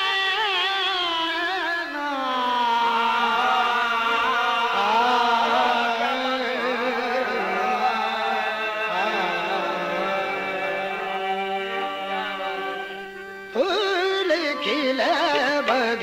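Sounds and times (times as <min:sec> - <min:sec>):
harmonium held notes: 0:00.0 - 0:16.0
voices singing ornamented melody: 0:01.5 - 0:16.0.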